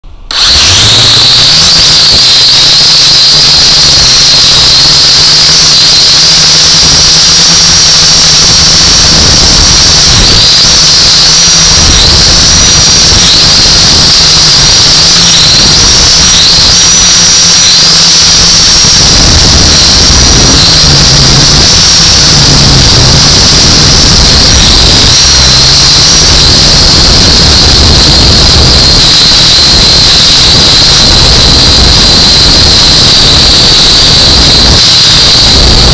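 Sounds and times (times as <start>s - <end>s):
drone propellers whining: 0.0s - 35.9s
low hum: 6.6s - 35.9s.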